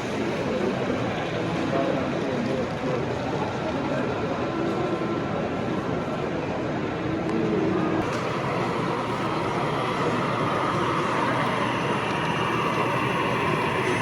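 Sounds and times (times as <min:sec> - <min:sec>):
crowd chatter: 0:00.0 - 0:14.0
model trains running: 0:00.0 - 0:14.0.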